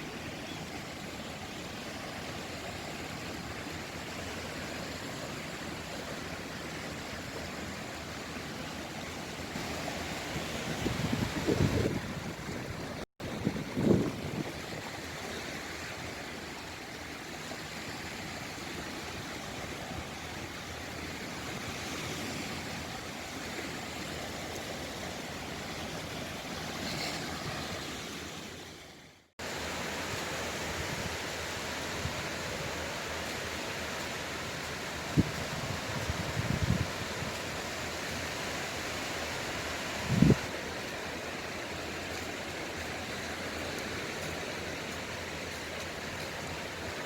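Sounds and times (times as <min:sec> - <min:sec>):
sea waves washing ashore: 0:00.0 - 0:47.0.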